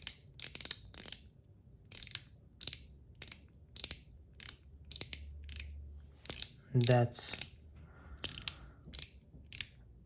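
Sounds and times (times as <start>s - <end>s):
metallic fidget slider clicks: 0.0s - 7.6s, 8.2s - 9.8s.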